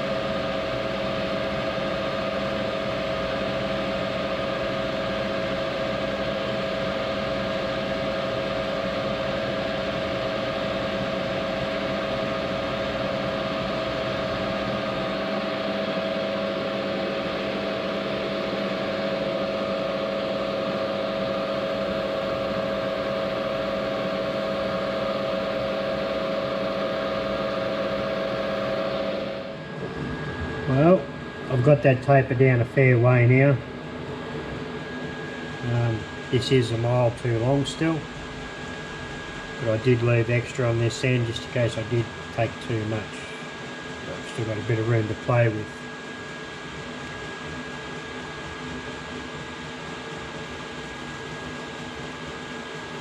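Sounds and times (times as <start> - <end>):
metal lathe running whine: 0.0 - 53.0.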